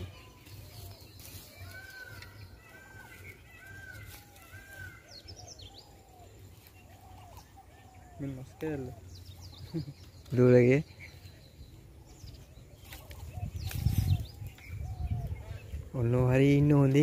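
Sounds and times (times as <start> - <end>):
birds whistling: 0.0 - 16.9.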